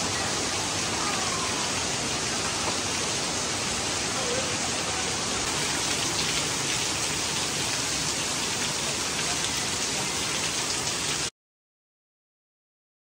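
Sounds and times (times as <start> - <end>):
steady rain falling: 0.0 - 11.3.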